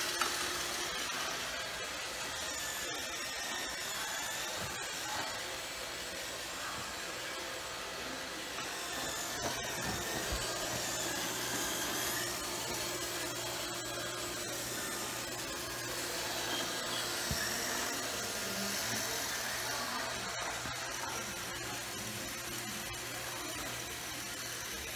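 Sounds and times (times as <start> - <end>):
robot vacuum whirring: 0.0 - 24.9.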